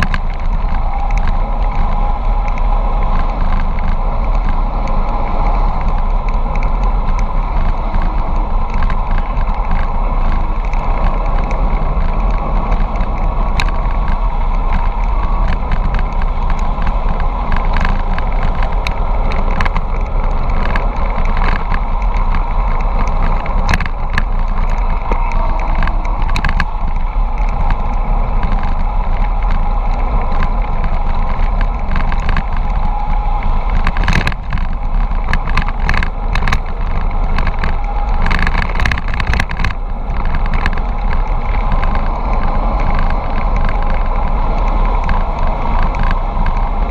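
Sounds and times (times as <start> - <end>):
bicycle tyre noise: 0.0 - 46.9
bike clicks and rattles: 0.0 - 46.9
wind rush on microphone: 0.0 - 46.9.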